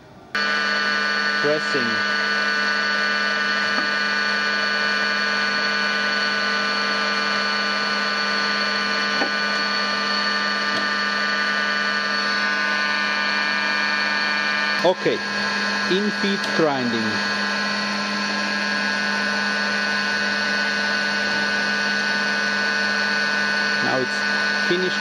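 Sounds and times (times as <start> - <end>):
grinder machine hum and whine: 0.0 - 25.0.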